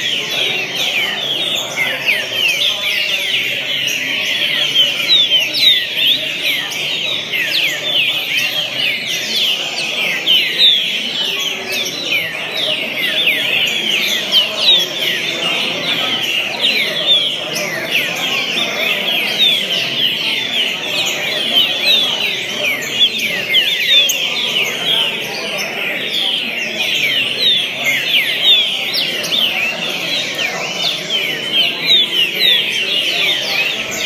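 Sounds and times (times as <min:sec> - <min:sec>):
birds whistling and chirping: 0:00.0 - 0:34.0.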